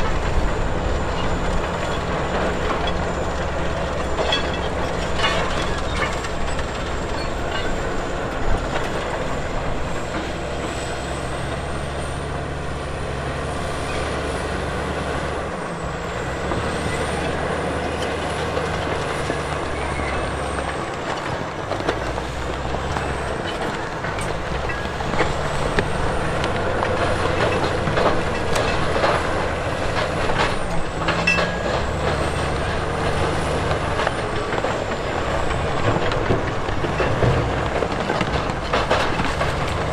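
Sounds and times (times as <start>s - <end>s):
heavy diesel machinery working: 0.0s - 39.9s
knocks and metal clatter: 0.0s - 39.9s.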